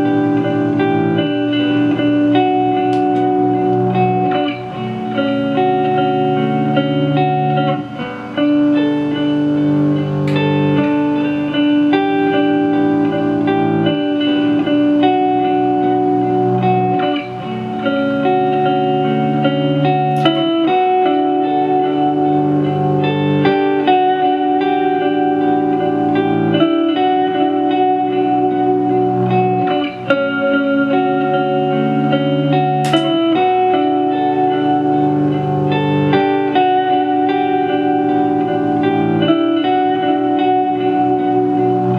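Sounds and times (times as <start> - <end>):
ambient electric guitar loop: 0.0 - 41.9.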